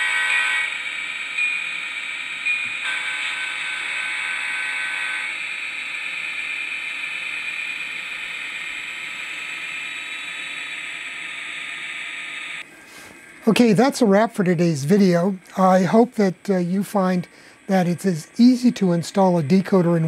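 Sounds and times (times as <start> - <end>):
model train diesel engine sound: 0.0 - 20.0.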